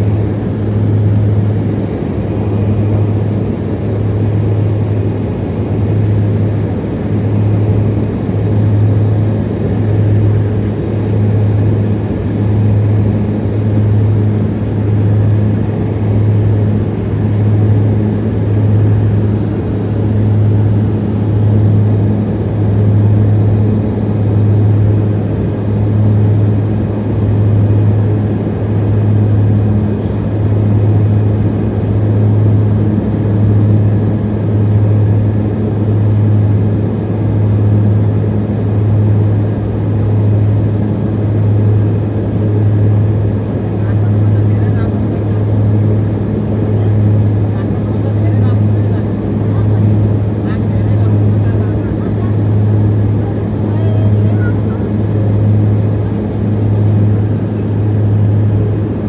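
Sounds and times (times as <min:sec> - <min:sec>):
turboprop propeller hum in cabin: 0:00.0 - 0:59.0.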